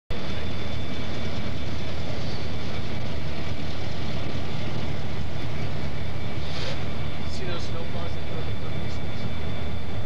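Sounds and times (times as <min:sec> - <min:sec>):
diesel locomotive engine rumble: 0:00.1 - 0:10.0.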